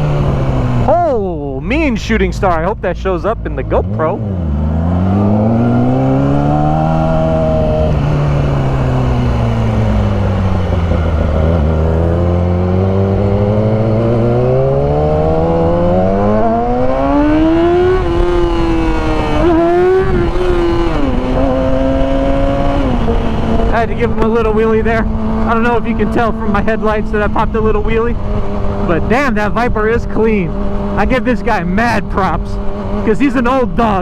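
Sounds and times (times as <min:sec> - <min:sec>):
motorcycle engine revving: 0:00.0 - 0:34.0
wind rushing over microphone: 0:04.2 - 0:34.0.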